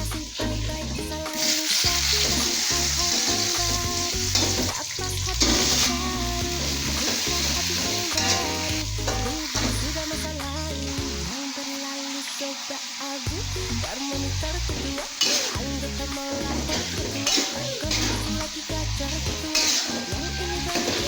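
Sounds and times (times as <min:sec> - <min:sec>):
background music: 0:00.0 - 0:21.0
food sizzling in hot oil: 0:00.0 - 0:21.0.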